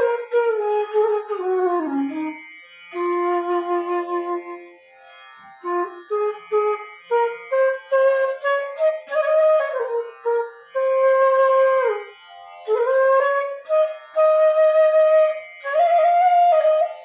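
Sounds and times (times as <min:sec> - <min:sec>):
bamboo flute melody: 0:00.0 - 0:17.0.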